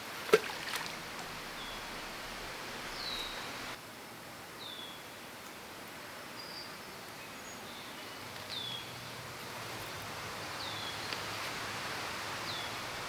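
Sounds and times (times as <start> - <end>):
steady hiss: 0.0 - 7.6, 8.2 - 13.0.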